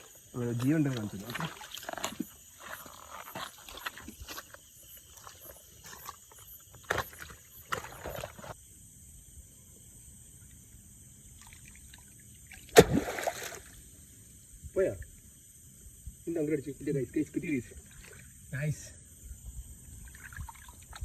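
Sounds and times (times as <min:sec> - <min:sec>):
night insects chirring: 0:00.0 - 0:21.0.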